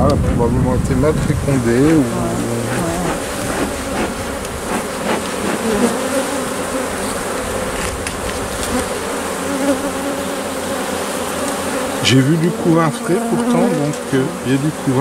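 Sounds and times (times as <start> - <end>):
honeybees buzzing: 1.4 - 15.0.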